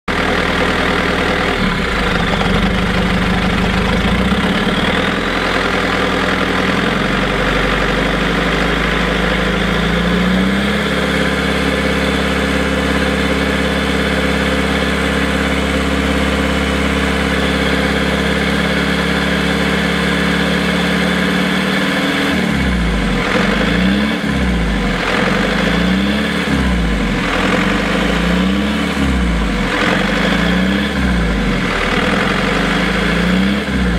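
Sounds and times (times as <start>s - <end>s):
engine running and revving: 0.1s - 33.9s.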